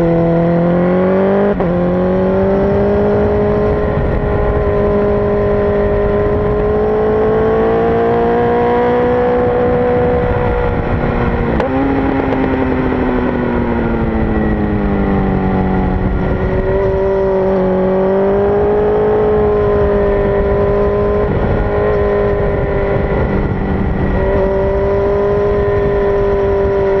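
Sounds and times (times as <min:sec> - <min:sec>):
motorcycle engine running hard: 0:00.0 - 0:27.0
wind rush on microphone: 0:00.0 - 0:27.0.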